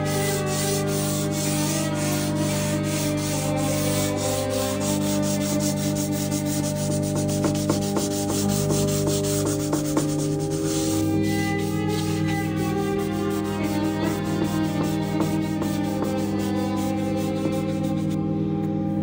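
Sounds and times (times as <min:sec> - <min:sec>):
charcoal scratching on paper: 0:00.0 - 0:18.2
soft background music: 0:00.0 - 0:19.0.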